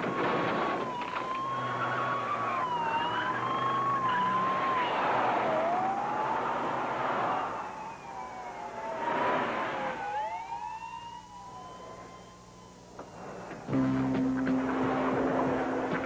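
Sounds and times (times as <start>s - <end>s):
police siren wailing: 0.0s - 16.0s.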